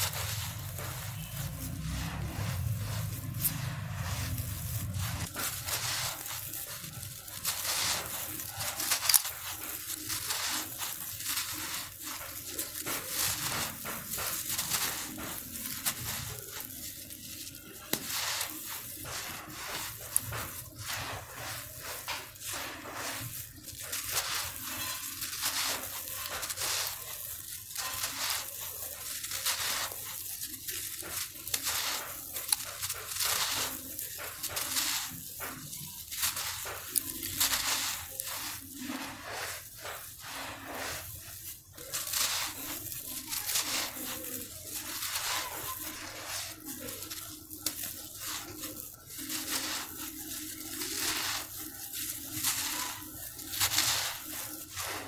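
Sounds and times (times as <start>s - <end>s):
hands crumbling gravelly dirt: 0.0s - 55.0s.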